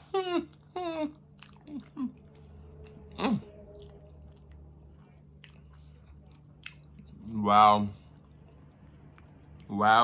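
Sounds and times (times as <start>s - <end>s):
low steady hum: 0.0s - 10.0s
person chewing with closed lips: 0.6s - 7.3s, 8.0s - 9.7s.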